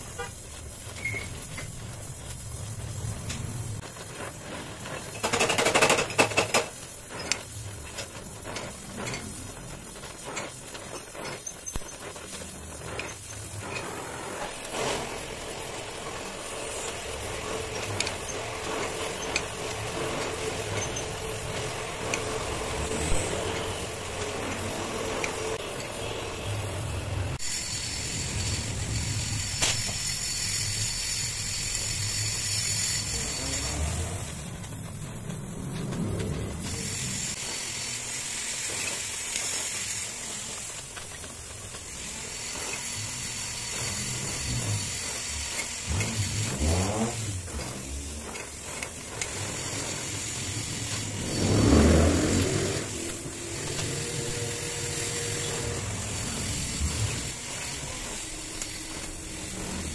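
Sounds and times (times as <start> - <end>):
welding torch flame hissing: 0.0 - 59.9.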